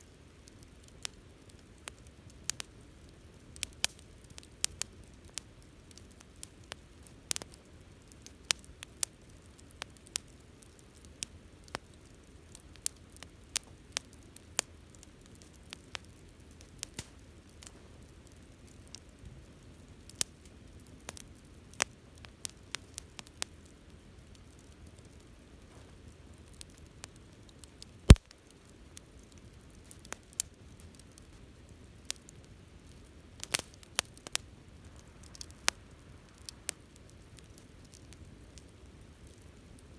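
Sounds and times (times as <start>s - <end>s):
wood bonfire crackling: 0.1s - 39.9s.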